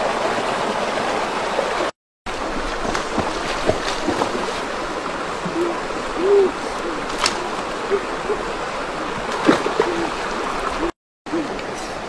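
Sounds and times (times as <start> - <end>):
stream running over rocks: 0.0 - 12.0
water splashing from wading: 0.0 - 12.0.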